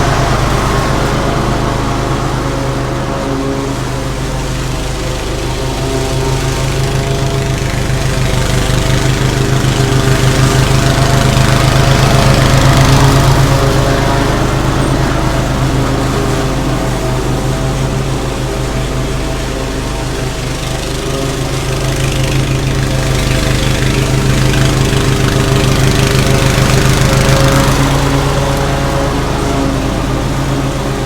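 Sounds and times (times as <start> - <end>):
lawn mower cutting grass: 0.0 - 31.0.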